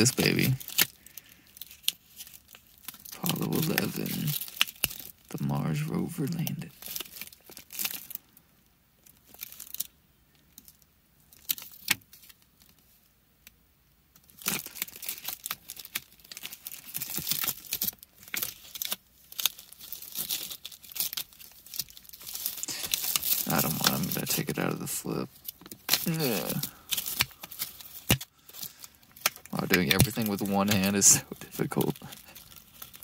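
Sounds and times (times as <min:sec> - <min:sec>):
plastic packaging crinkling: 0:00.0 - 0:08.4, 0:09.0 - 0:13.0, 0:14.2 - 0:33.0.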